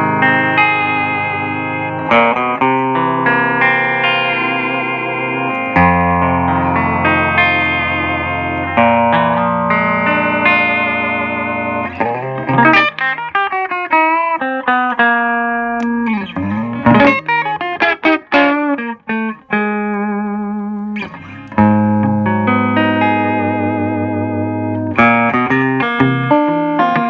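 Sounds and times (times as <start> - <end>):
clean electric guitar: 0.0 - 27.0.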